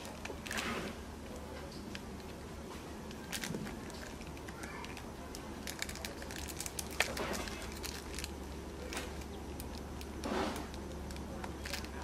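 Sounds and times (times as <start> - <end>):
foil packet crinkling: 0.0 - 12.0.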